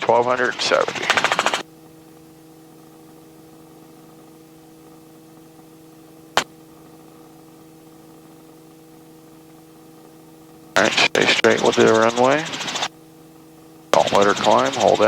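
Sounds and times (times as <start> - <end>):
electrical hum with tones: 0.0 - 15.0.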